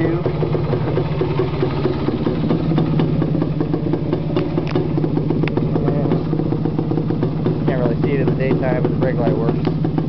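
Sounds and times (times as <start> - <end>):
two-stroke engine idling: 0.0 - 10.0.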